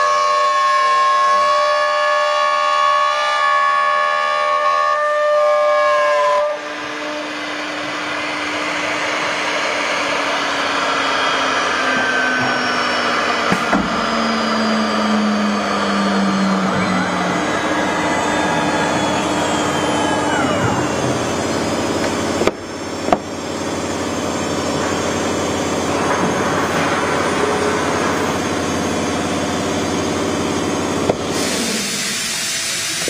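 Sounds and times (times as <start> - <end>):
router spindle whining: 4.0 - 33.0.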